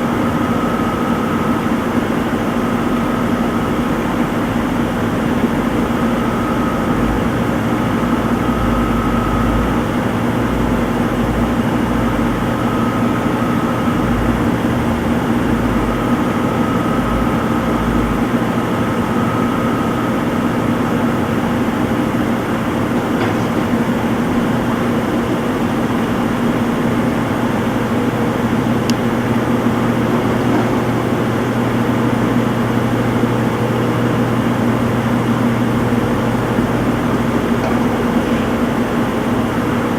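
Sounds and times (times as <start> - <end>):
washing machine motor hum: 0.1 - 39.9.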